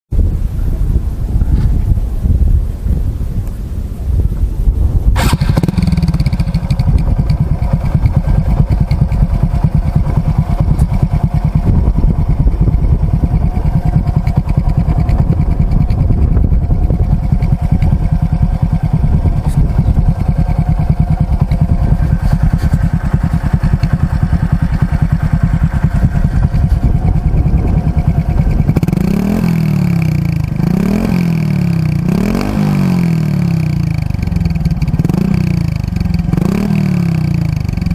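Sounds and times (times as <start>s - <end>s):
motorcycle engine idling and revving: 0.2s - 37.9s.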